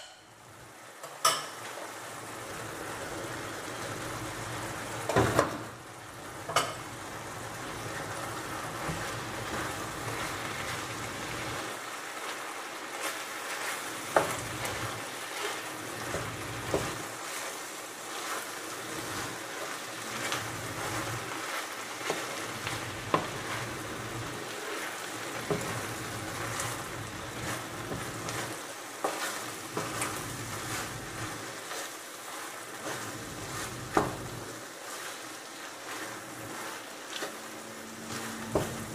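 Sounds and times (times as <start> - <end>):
food sizzling in a frying pan: 0.0 - 38.9
spatula knocking and scraping pan: 5.0 - 5.7, 6.4 - 7.0, 7.6 - 11.7, 13.0 - 38.9.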